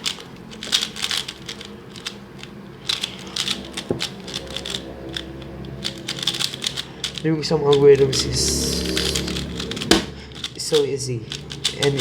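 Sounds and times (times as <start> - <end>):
plastic puzzle cube clicking: 0.0 - 12.0.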